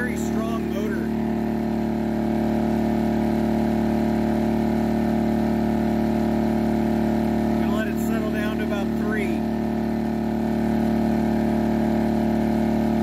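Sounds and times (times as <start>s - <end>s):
generator engine running steadily: 0.0s - 13.0s.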